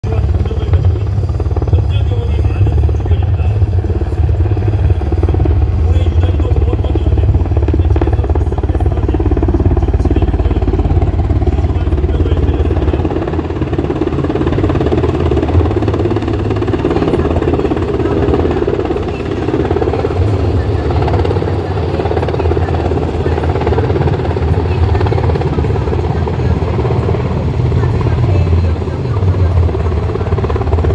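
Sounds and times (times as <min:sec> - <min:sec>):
helicopter rotor and engines: 0:00.0 - 0:30.9.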